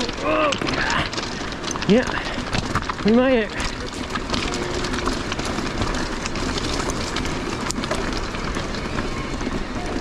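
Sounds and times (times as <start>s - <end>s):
bike rattling: 0.0s - 10.0s
steady rush of noise: 0.0s - 10.0s
tyres crunching over stones: 0.0s - 10.0s.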